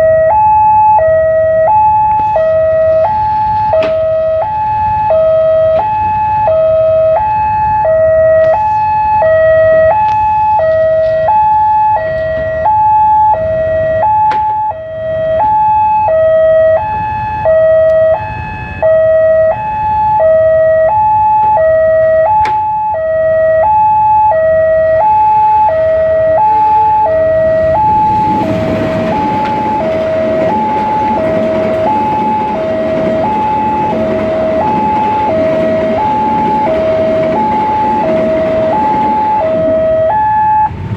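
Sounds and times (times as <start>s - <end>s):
two-tone crossing alarm: 0.0s - 40.9s
train rumble: 1.0s - 40.9s.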